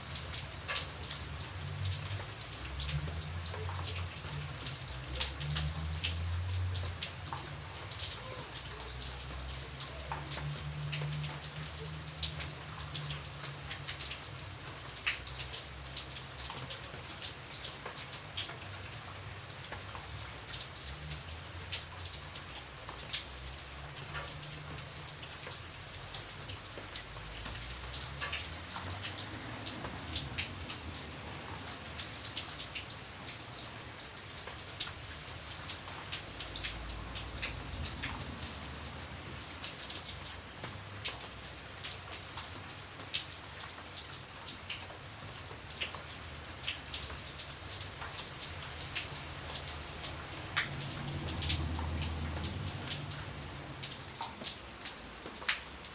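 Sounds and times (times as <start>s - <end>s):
rain drops ticking: 0.0s - 55.9s
rain hiss: 0.0s - 55.9s.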